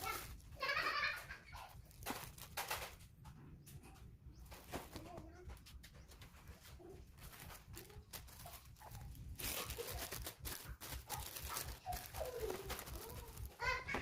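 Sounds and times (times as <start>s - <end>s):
rustling handling noise: 0.0s - 14.0s.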